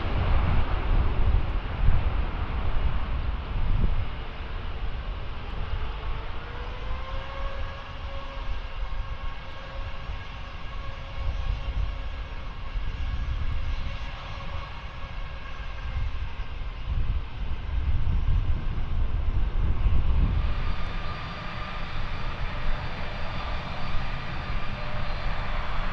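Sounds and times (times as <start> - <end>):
jet engines whining: 0.0 - 25.9.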